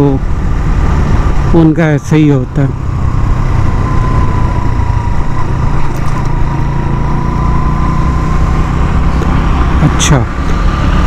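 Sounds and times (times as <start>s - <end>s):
motorcycle engine cruising: 0.0s - 11.0s
wind rushing over microphone: 0.0s - 11.0s.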